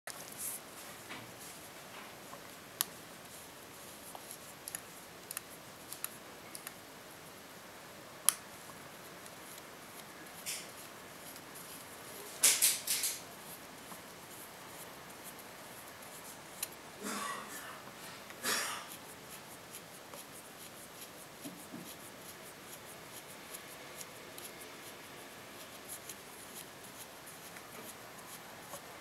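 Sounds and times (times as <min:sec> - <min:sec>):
low steady hiss: 0:00.1 - 0:29.0.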